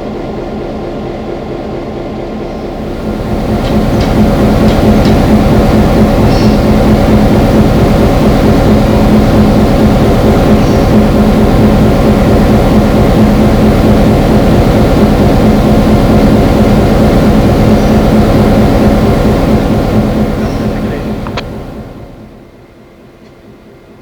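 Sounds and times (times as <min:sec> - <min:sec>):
diesel locomotive running: 0:00.0 - 0:24.0.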